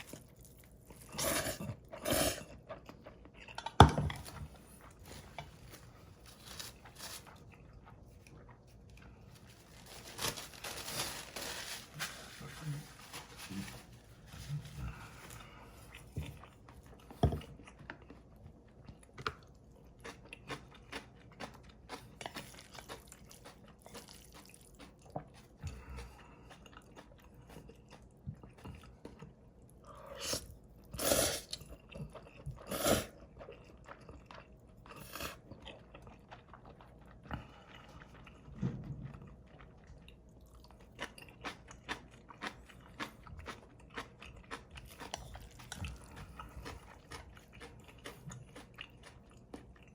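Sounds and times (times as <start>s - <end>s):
wet chewing with mouth clicks: 0.0s - 9.5s, 14.9s - 49.9s.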